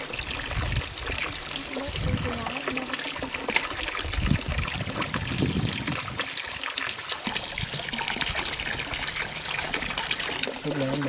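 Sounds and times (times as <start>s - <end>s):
trickle of running water: 0.0s - 11.0s.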